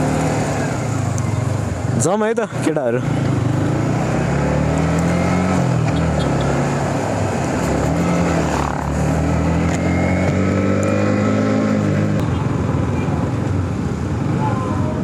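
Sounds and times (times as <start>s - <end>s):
motorcycle engine revving: 0.0s - 12.6s
wind and road noise: 0.0s - 15.0s.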